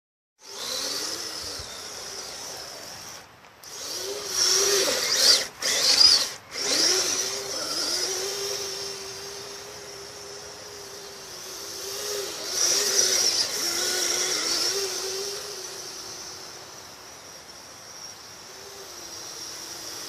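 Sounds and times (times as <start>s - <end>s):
electric motor whining: 0.4s - 20.0s.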